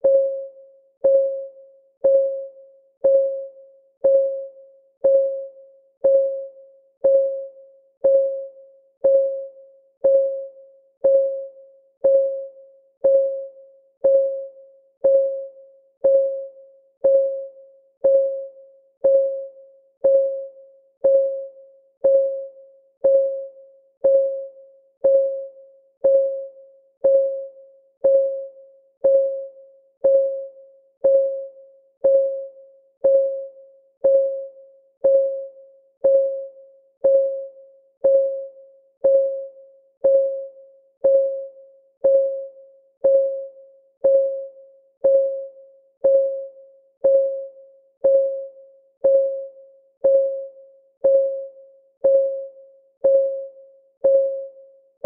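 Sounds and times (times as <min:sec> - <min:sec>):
timer ticking: 0:01.0 - 0:54.6.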